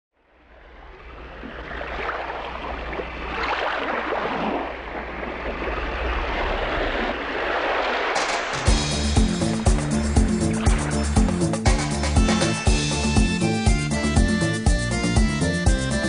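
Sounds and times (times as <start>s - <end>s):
ocean waves breaking: 0.3s - 15.7s.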